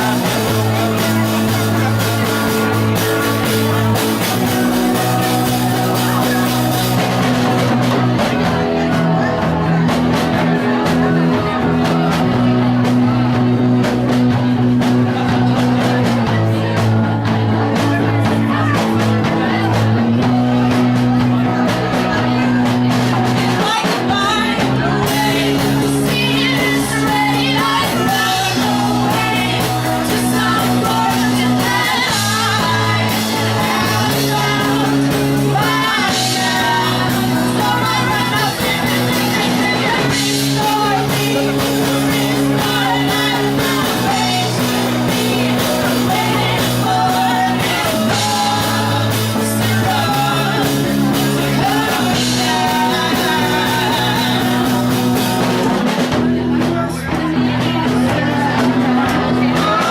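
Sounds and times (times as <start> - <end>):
lead singer: 0.0 - 59.9
rock band playing live: 0.0 - 59.9
sustained bass notes: 0.0 - 59.9.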